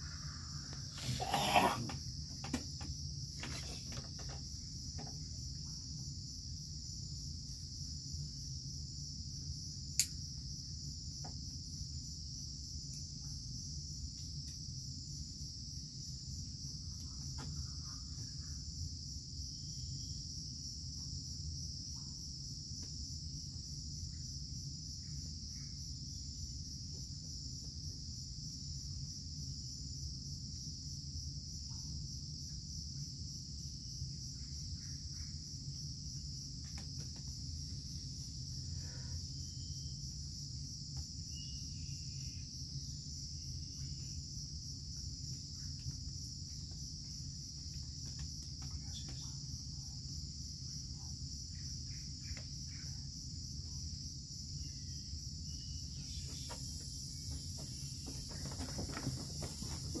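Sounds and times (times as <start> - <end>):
insects chorus: 0.0 - 60.0.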